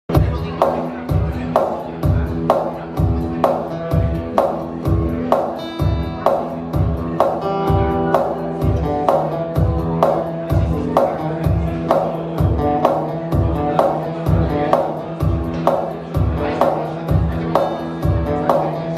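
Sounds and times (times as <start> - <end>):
acoustic guitar playing: 0.2 - 18.9.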